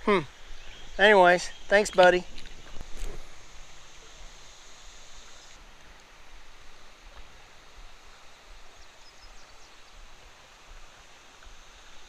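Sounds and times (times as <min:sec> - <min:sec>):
creek water rushing over gravel: 0:00.0 - 0:12.0.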